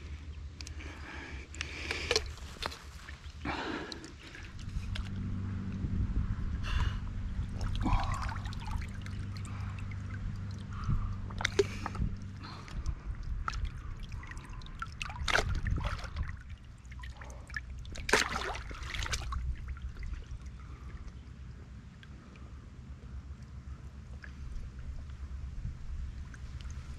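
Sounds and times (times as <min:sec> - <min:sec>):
low steady hum: 0:00.0 - 0:26.9
water sloshing and splashing: 0:00.3 - 0:05.4, 0:06.7 - 0:22.2, 0:23.2 - 0:26.9.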